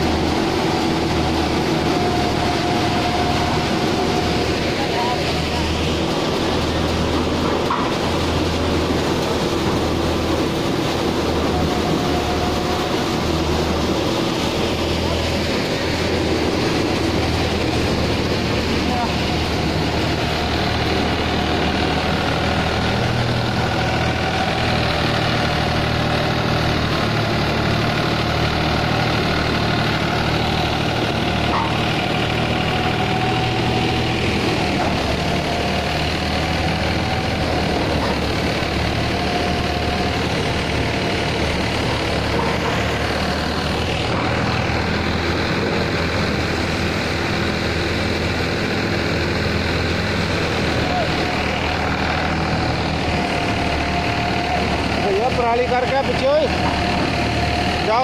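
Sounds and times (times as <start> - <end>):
thresher drum and fan whirring: 0.0 - 58.0
tractor engine running: 0.0 - 58.0.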